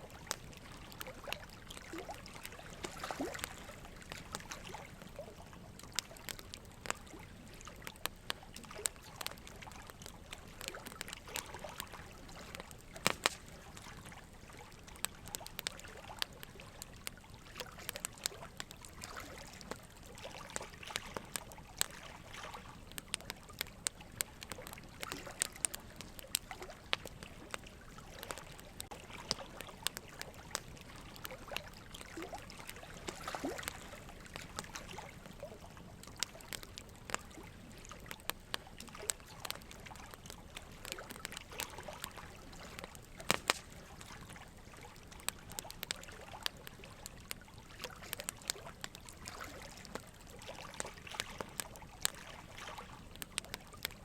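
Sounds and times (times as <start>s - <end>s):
faint trickling water: 0.0s - 54.0s
small water drips and blips: 0.0s - 54.0s.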